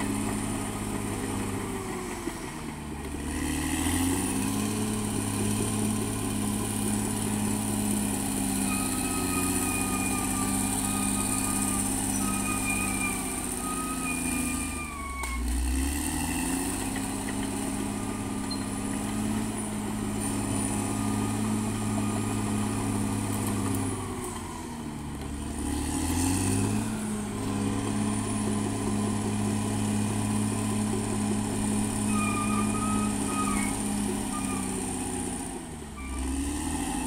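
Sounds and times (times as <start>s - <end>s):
bulldozer diesel engine: 0.0s - 37.0s.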